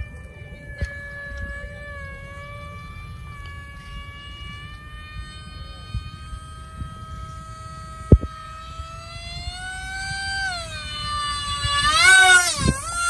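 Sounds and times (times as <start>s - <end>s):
model jet motor whining: 0.0s - 13.0s.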